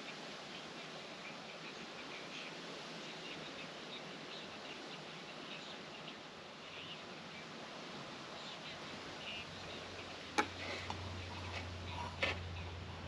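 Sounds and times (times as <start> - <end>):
faint birds chirping: 0.0 - 13.0
low background hiss: 0.0 - 13.0.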